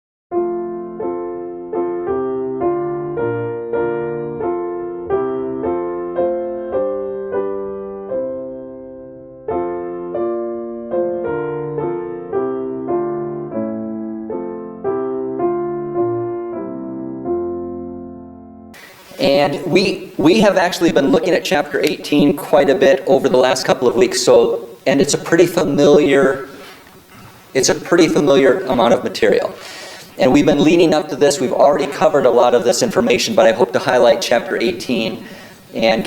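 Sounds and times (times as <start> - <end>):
piano playing slow chords: 0.3 - 36.0.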